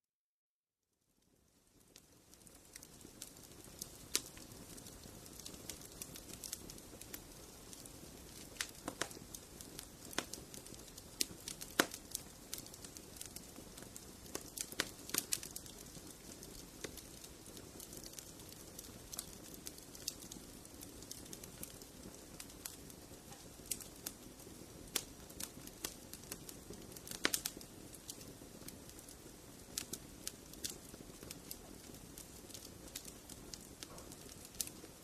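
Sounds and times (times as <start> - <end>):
fireplace fire crackling: 1.0 - 35.0.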